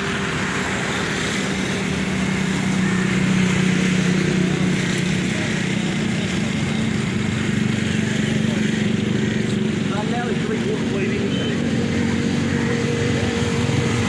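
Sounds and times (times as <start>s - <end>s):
tractor engine humming: 0.0s - 14.0s.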